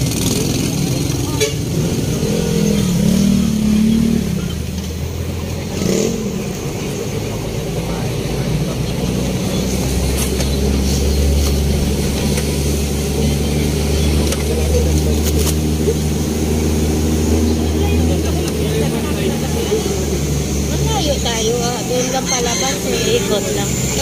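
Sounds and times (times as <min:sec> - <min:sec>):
vehicle engine humming from inside: 0:00.0 - 0:24.0.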